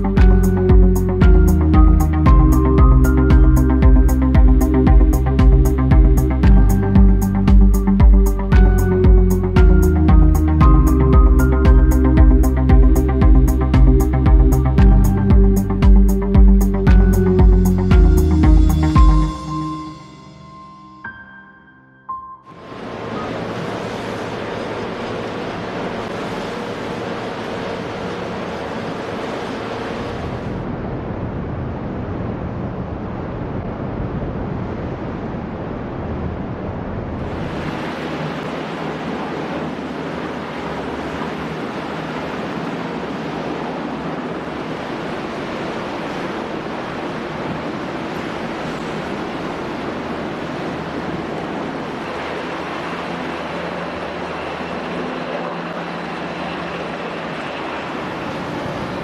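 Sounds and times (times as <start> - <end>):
sea water rushing: 0.0 - 21.5, 22.5 - 59.0.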